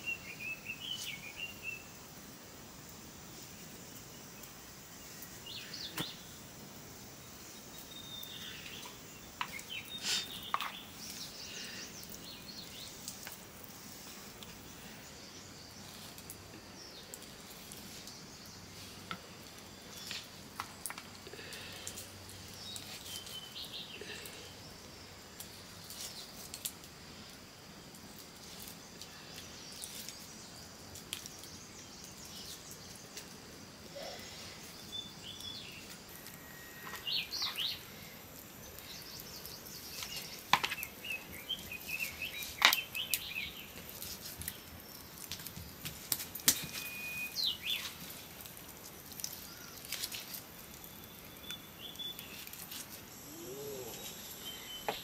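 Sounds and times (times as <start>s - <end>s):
outdoor background hiss: 0.0s - 55.0s
birds chirping: 3.4s - 26.4s, 28.7s - 55.0s.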